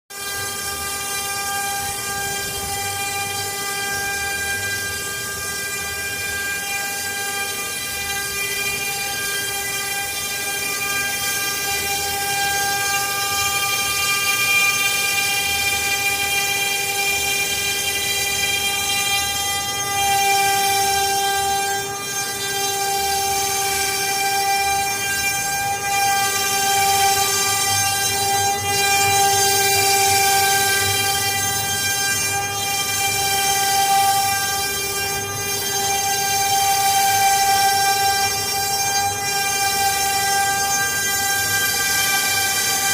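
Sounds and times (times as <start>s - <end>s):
router spindle whine: 0.1s - 42.9s.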